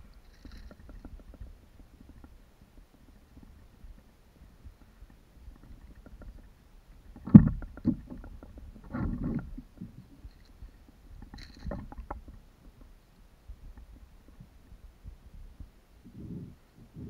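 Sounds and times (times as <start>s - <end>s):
light clicks and knocks: 0.0s - 15.8s
rustling: 0.0s - 17.0s.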